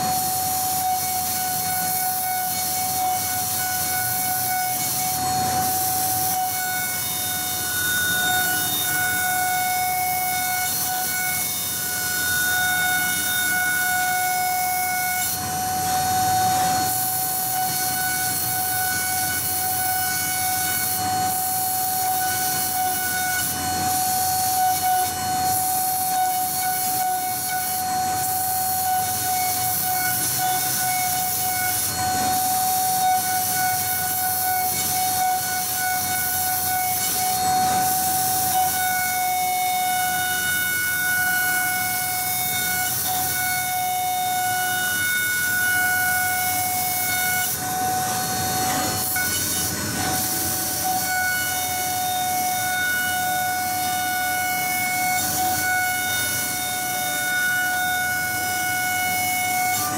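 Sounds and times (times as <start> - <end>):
milling spindle high-pitched whine: 0.0 - 59.9.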